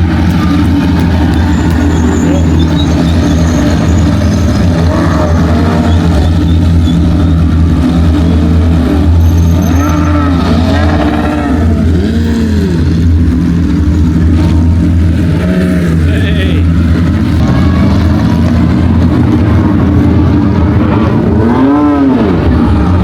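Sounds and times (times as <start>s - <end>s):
race cars passing at high revs: 0.0s - 23.0s
steady low rumble: 0.0s - 23.0s.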